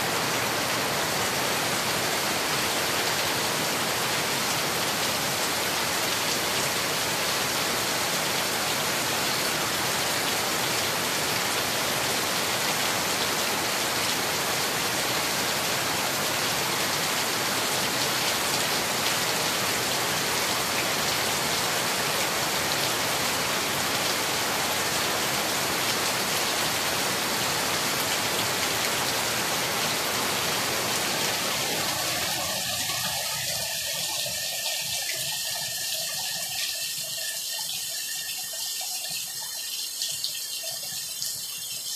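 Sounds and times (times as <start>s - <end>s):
heavy rain on metal sheeting: 0.0s - 41.9s.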